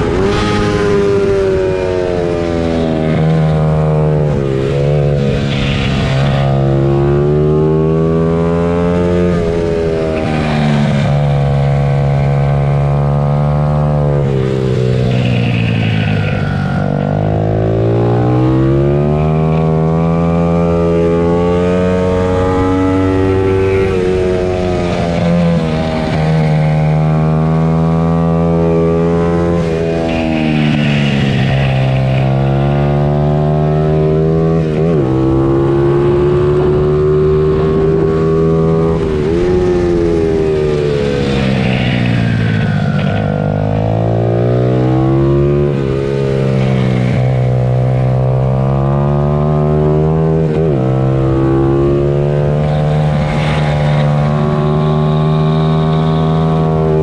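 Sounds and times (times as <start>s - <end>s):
pit bike engines revving: 0.0s - 57.0s.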